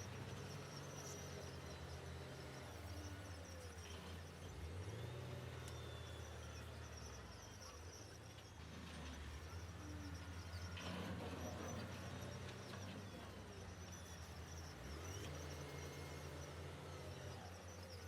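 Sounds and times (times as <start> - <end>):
distant heavy machinery engines: 0.0 - 18.0.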